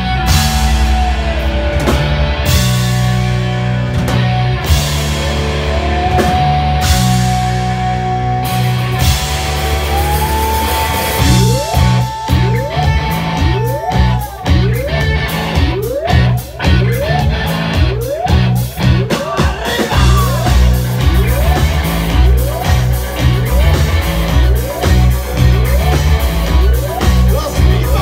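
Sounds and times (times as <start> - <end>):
electric guitar phrase: 0.0 - 28.0
rock band playing: 0.0 - 28.0.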